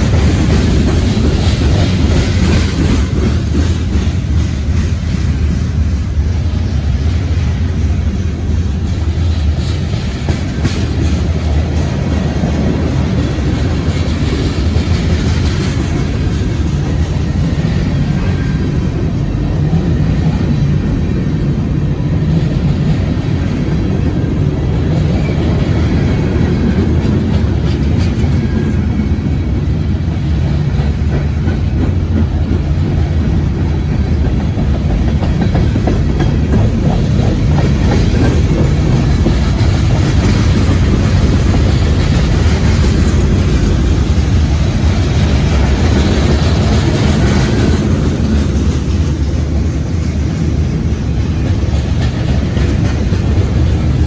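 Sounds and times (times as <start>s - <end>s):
wheels clicking over rail joints: 0.0s - 21.4s, 22.1s - 54.0s
train wheels rumbling on rail: 0.0s - 54.0s.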